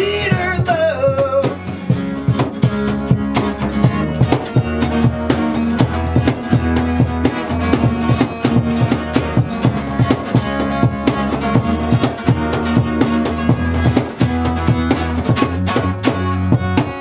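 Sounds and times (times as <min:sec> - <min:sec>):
country band playing: 0:00.0 - 0:17.0.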